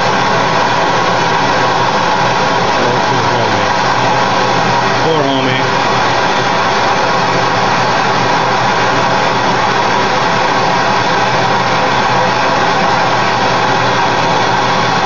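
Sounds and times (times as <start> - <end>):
gas torches roaring: 0.0 - 15.0.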